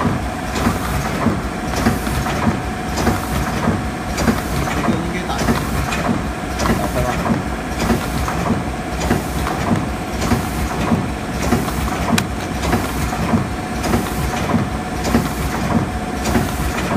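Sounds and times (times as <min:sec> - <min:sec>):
constant mechanical tone: 0:00.0 - 0:16.9
machine mechanism clacking: 0:00.6 - 0:16.9.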